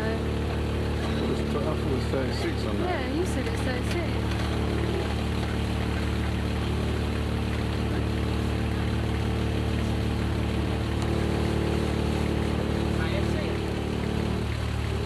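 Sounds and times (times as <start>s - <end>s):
boat engine droning: 0.0s - 15.0s
water and wind hiss: 0.0s - 15.0s.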